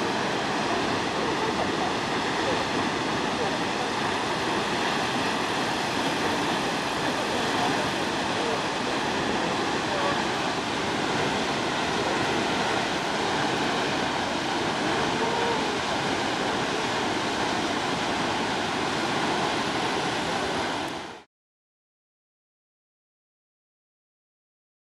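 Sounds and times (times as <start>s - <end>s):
waterfall rushing: 0.0s - 21.2s.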